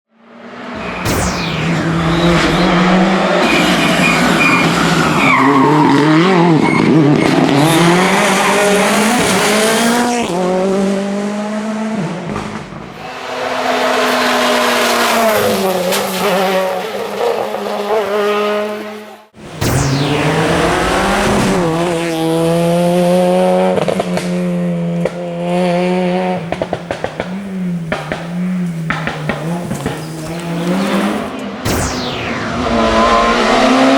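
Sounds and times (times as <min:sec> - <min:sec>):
rally cars revving past: 0:01.8 - 0:19.2, 0:20.2 - 0:31.6.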